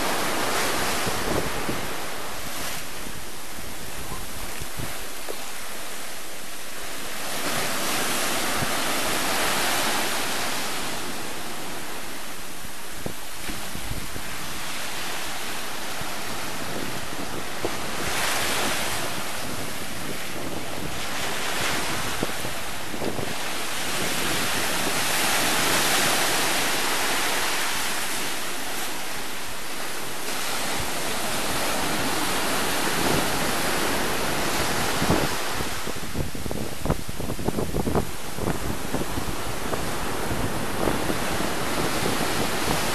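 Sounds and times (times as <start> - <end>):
waves breaking on sand and rocks: 0.0 - 42.9
wind rumbling on microphone: 0.0 - 42.9.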